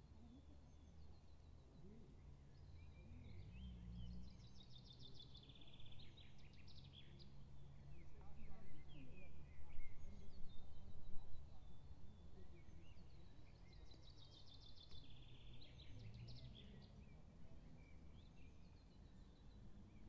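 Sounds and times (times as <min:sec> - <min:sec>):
songbirds chirping: 0:00.0 - 0:20.0
low outdoor rumble: 0:00.1 - 0:20.0
bird trilling song: 0:00.2 - 0:20.0.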